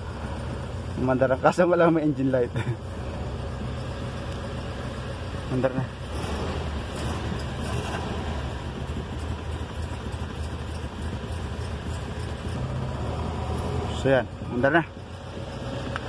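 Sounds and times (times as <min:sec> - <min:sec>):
car engine idling with misfires: 0:00.0 - 0:16.0.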